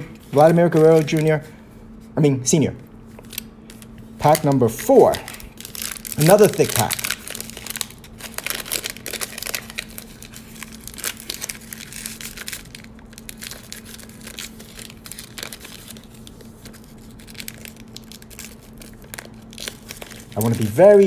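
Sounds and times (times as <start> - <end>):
wrapper crinkling and tearing: 0.0 - 1.4, 3.1 - 21.0.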